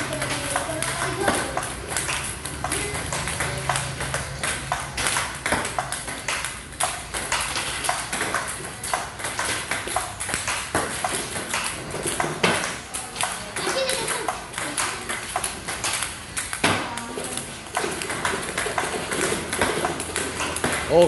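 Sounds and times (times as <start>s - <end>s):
table tennis balls clicking: 0.0s - 21.0s.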